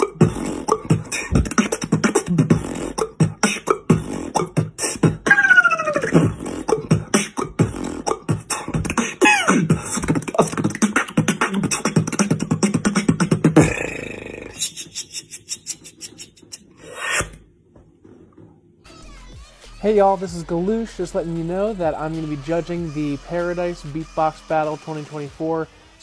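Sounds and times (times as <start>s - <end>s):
person beatboxing: 0.0s - 17.4s, 19.0s - 25.3s.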